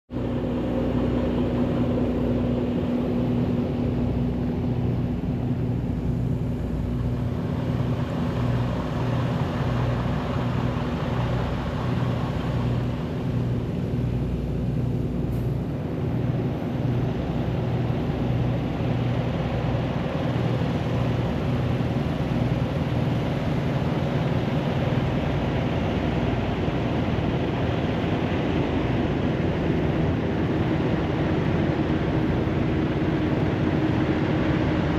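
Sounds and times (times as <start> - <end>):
vehicle engine running: 0.1 - 34.9.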